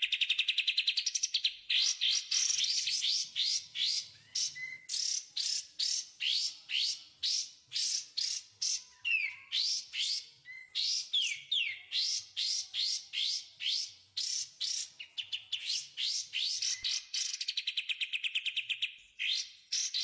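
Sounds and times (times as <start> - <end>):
high rising bird chirps: 0.0 - 20.0.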